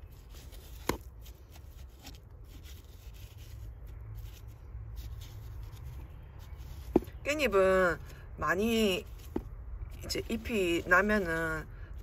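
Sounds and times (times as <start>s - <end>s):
hands rustling seeds and soil: 0.0s - 12.0s
low steady rumble: 0.0s - 12.0s.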